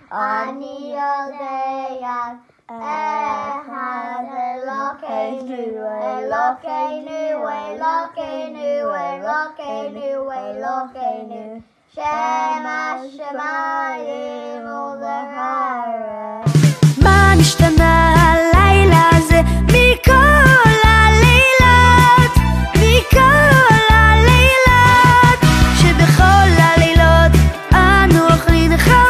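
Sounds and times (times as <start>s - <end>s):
children singing: 0.0s - 29.0s.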